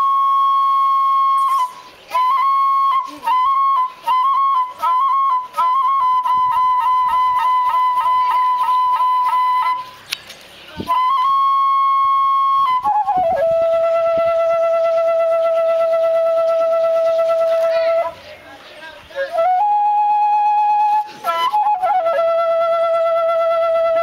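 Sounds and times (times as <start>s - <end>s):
solo flute playing held notes: 0.0s - 10.0s, 10.7s - 18.3s, 19.1s - 24.0s.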